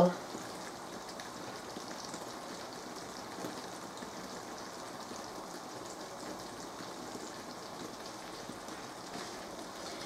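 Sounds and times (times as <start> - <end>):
food frying in a wok: 0.0 - 10.0.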